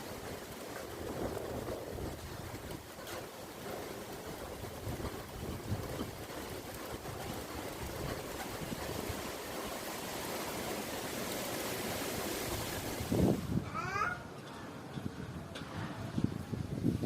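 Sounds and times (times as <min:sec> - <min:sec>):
wind buffeting microphone: 0:00.0 - 0:10.5, 0:12.3 - 0:14.2, 0:14.8 - 0:17.0
strong gusty wind: 0:00.0 - 0:17.0.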